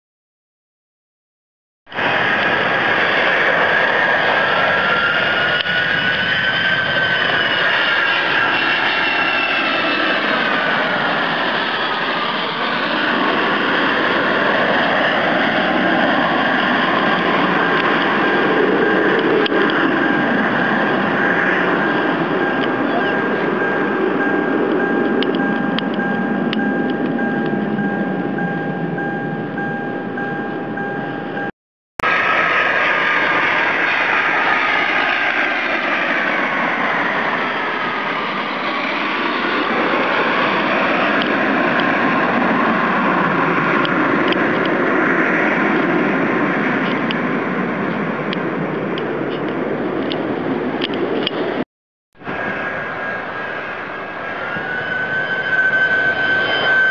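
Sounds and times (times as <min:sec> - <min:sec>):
jet engines rushing and whining: 0:01.9 - 0:56.9.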